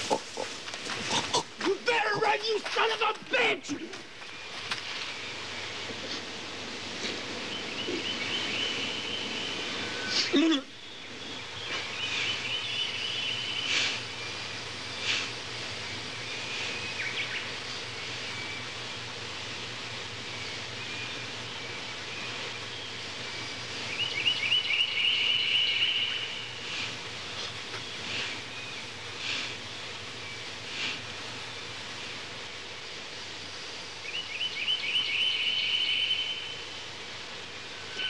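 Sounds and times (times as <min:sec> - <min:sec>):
birds chirping and trilling: 0:00.0 - 0:38.0
steady background hiss: 0:00.0 - 0:38.0.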